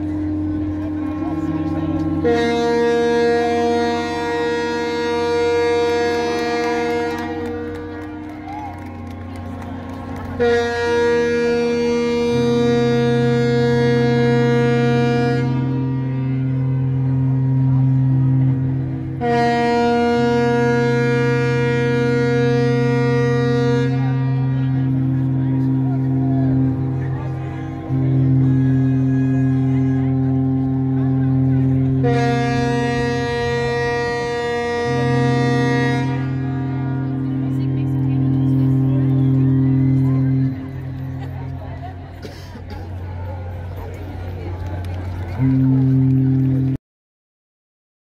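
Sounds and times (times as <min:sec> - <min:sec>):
low drone: 0:00.0 - 0:46.8
ship's horn blast: 0:00.0 - 0:46.8.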